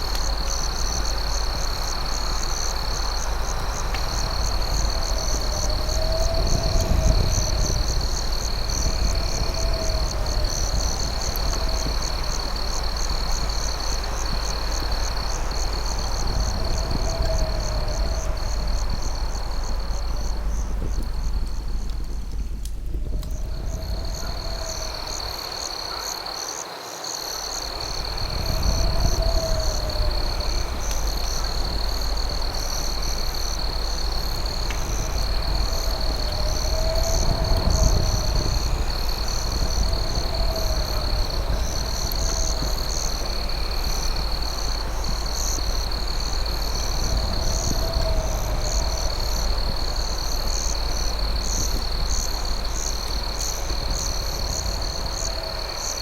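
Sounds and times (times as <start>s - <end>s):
low rumble: 0.0s - 25.5s, 27.7s - 56.0s
crickets trilling: 0.0s - 56.0s
short lower insect call: 0.0s - 56.0s.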